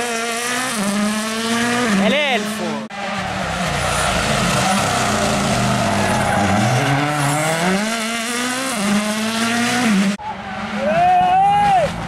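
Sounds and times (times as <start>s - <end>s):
rally car engine: 0.0s - 12.0s
rushing noise of passing car: 0.0s - 12.0s.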